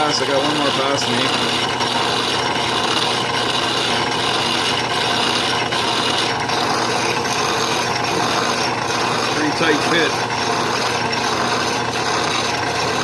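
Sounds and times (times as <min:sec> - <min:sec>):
lathe boring bar cutting steel: 0:00.0 - 0:13.0.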